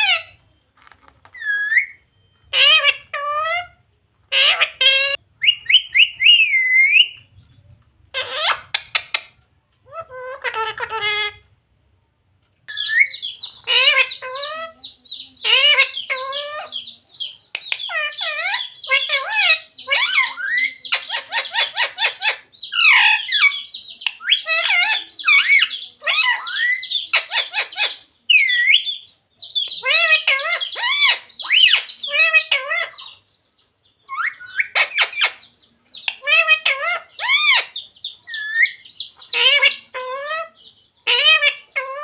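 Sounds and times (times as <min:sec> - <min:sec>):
parakeet chirping and squawking: 0:00.0 - 0:07.4, 0:08.1 - 0:11.5, 0:12.7 - 0:33.4, 0:34.0 - 0:42.0.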